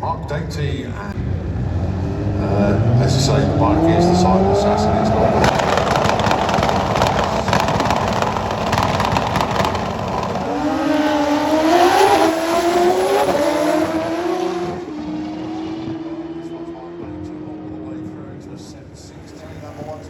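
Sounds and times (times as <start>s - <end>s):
motorcycle engine roaring: 0.9s - 20.0s.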